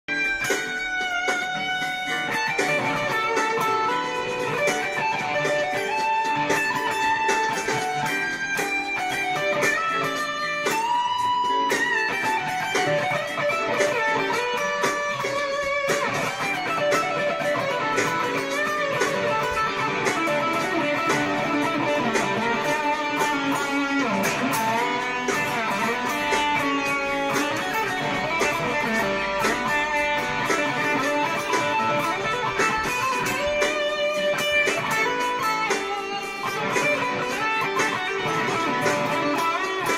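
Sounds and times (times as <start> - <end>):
distorted electric guitar lead: 0.1 - 39.9.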